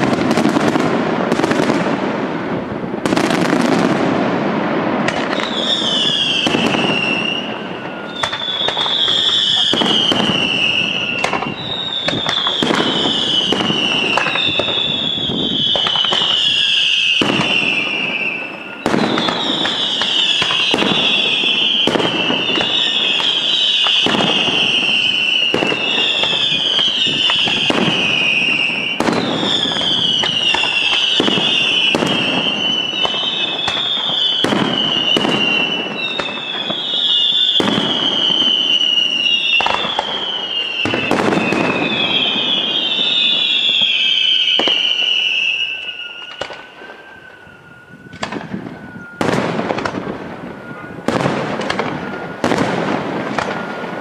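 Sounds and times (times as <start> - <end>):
descending firework whistles: 0.0 - 54.0.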